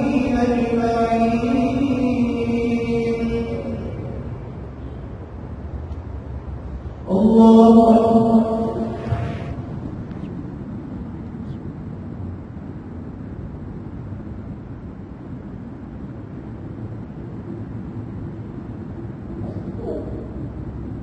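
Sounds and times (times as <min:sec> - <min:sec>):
low rumbling room tone: 0:00.0 - 0:21.0.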